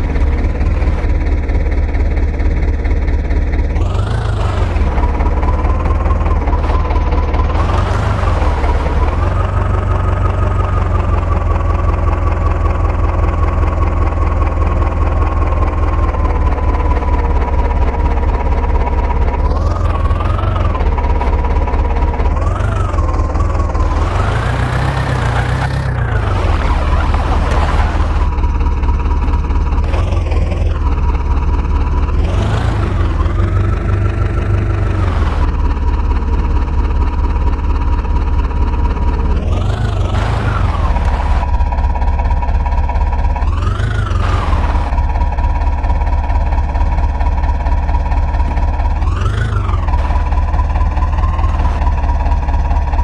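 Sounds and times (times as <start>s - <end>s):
constant whine: 0.0s - 53.0s
heavy diesel engine rumbling: 0.0s - 53.0s.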